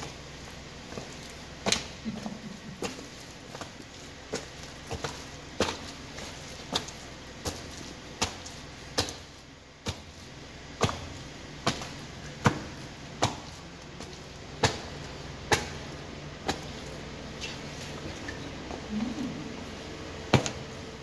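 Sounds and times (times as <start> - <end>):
boots trampling raw chicken: 0.0 - 21.0.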